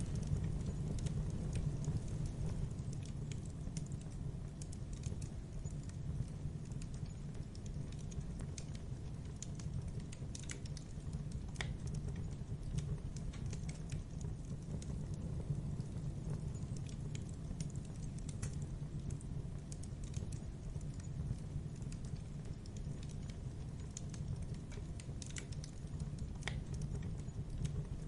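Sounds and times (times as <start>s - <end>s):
rumble of flames: 0.0s - 28.0s
wood crackling and popping: 0.0s - 28.0s.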